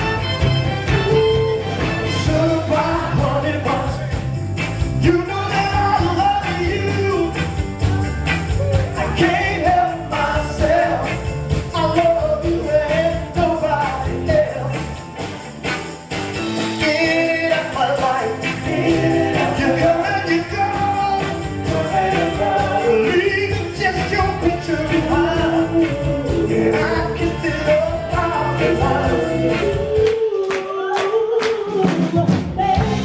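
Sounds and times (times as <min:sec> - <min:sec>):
bass and drums: 0:00.0 - 0:30.3, 0:31.7 - 0:33.0
vocalist singing: 0:02.1 - 0:15.0, 0:16.7 - 0:33.0.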